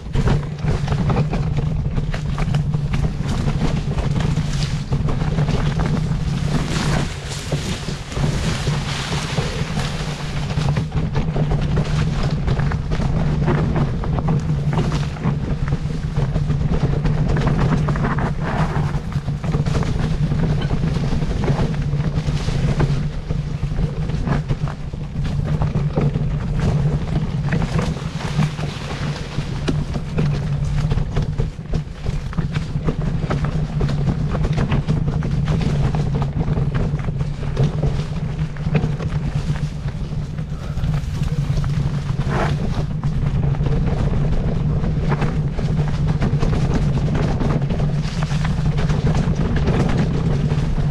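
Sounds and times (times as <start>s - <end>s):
engine humming steadily: 0.0s - 50.9s
wind buffeting microphone: 0.0s - 50.9s.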